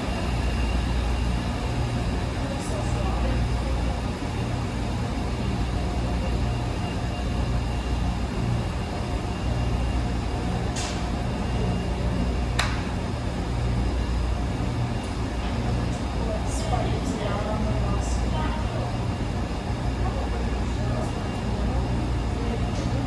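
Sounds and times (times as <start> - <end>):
washer motor hum: 0.0 - 23.0.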